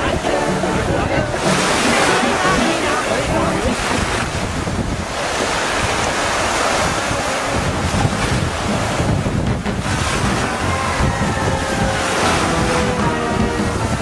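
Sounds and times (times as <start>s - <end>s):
surf washing onto shore: 0.0s - 14.0s
wind buffeting microphone: 0.0s - 14.0s.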